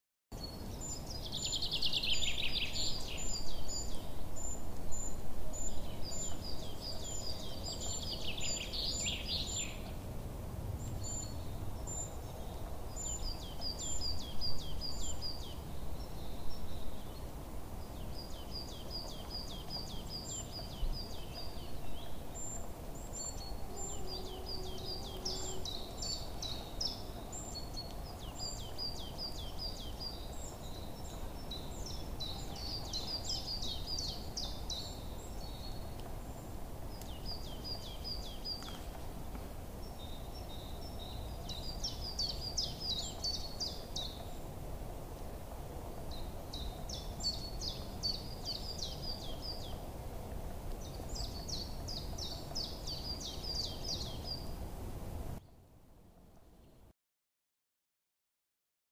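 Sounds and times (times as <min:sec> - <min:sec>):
sparrows chirping: 0:00.4 - 0:10.0, 0:10.8 - 0:17.2, 0:17.8 - 0:39.0, 0:39.8 - 0:44.5, 0:46.1 - 0:49.9, 0:50.7 - 0:54.6.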